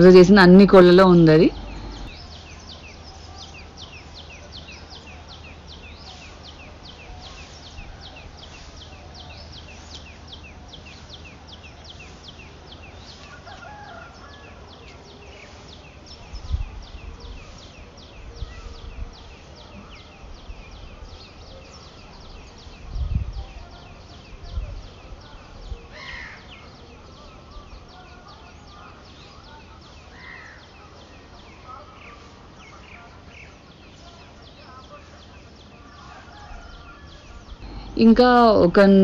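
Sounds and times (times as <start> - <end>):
bird chirping: 0.0 - 36.2.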